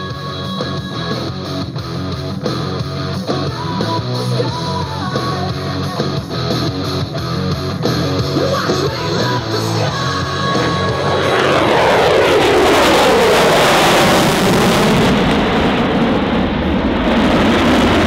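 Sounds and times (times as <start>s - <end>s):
guitar rock music: 0.0s - 18.0s.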